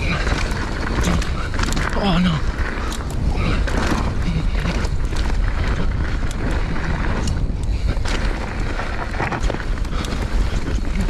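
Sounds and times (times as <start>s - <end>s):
bike rolling on gravel: 0.0s - 11.0s
stones and bike rattling: 0.0s - 11.0s
wind buffeting microphone: 0.0s - 11.0s.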